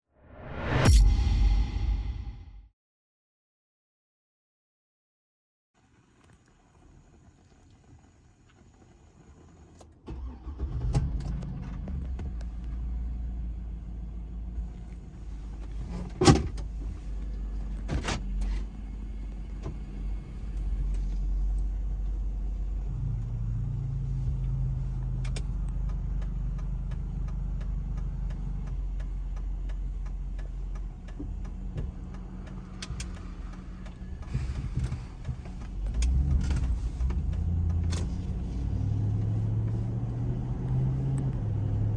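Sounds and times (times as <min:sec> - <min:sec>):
car engine starting and idling: 0:06.1 - 0:41.9.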